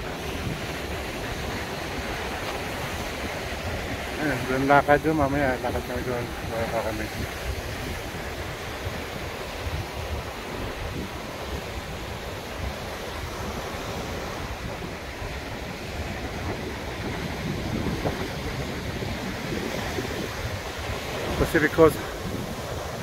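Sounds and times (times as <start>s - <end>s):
surf breaking over rocks: 0.0s - 23.0s
wind buffeting microphone: 0.0s - 23.0s.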